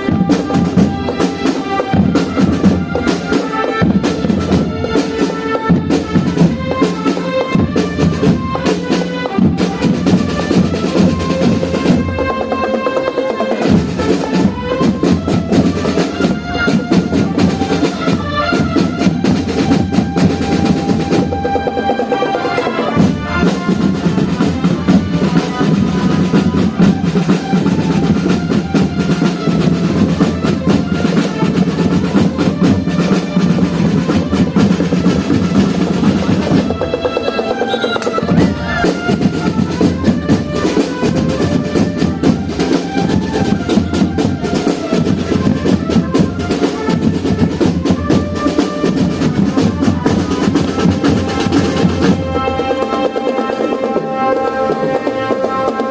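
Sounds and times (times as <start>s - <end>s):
marching band playing: 0.0s - 55.9s
snare and bass drum rolls: 0.0s - 55.9s.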